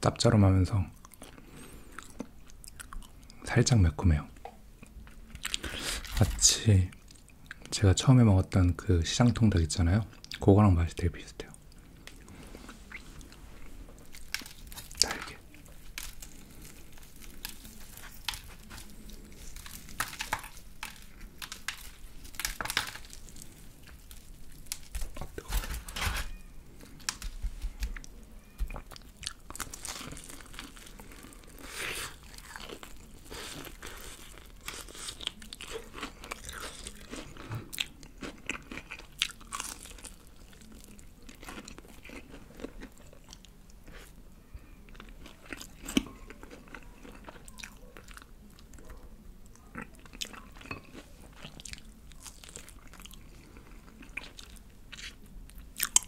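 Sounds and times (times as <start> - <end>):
crunching and chewing fried chicken: 0.9 - 3.4, 4.8 - 7.8, 11.4 - 56.0.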